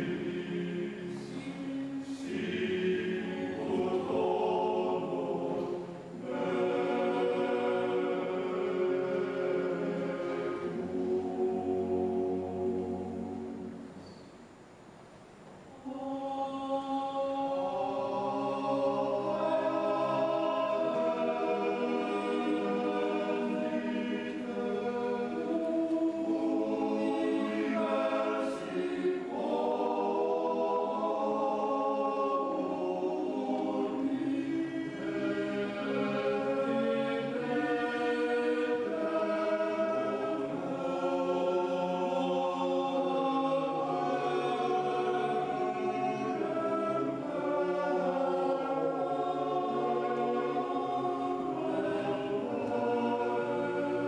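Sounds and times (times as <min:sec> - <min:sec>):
men's choir singing: 0:00.0 - 0:13.9, 0:15.8 - 0:54.0.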